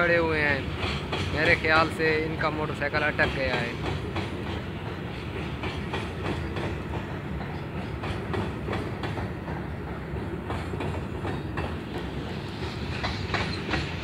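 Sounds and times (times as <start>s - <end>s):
freight train wheels clickety-clack: 0.0s - 14.0s
train low rumble: 0.0s - 14.0s.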